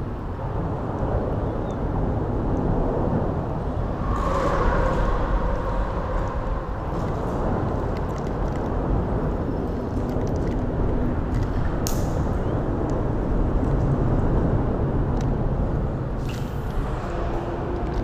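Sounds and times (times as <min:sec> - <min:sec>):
highway traffic rumble: 0:00.0 - 0:18.0.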